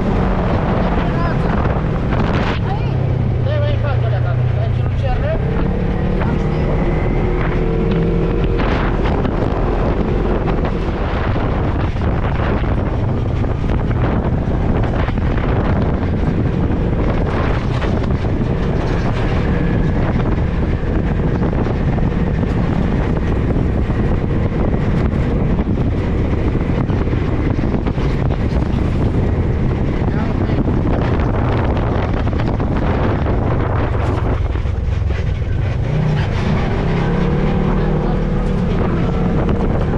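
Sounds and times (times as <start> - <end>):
vehicle engine running: 0.0 - 39.9
wind buffeting microphone: 0.0 - 39.9.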